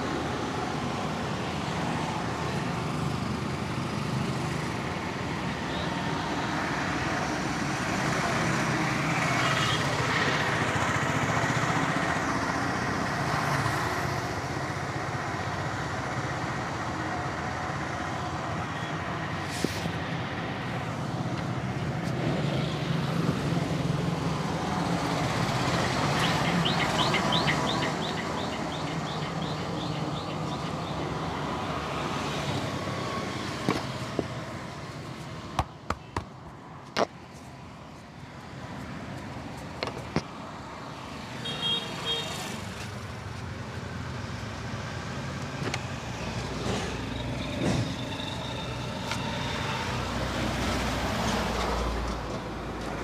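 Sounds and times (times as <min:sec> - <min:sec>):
road vehicles passing: 0:00.0 - 0:53.0.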